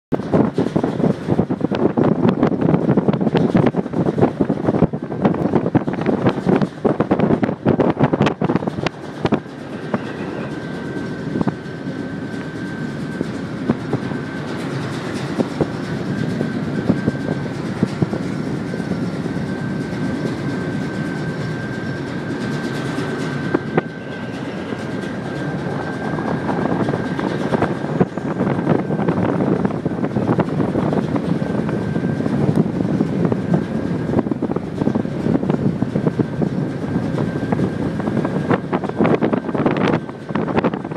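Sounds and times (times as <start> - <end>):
ferry engines rumbling: 0.1 - 40.9
wind buffeting microphone: 0.1 - 40.9
thin high whine: 4.8 - 40.9.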